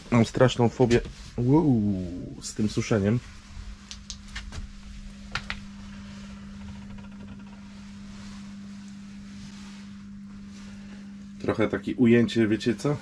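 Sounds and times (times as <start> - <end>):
electric smoker humming: 0.0 - 13.0.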